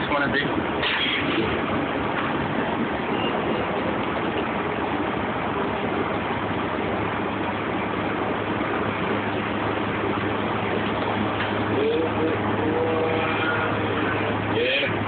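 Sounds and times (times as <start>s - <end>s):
bus drivetrain and road noise: 0.0s - 15.0s.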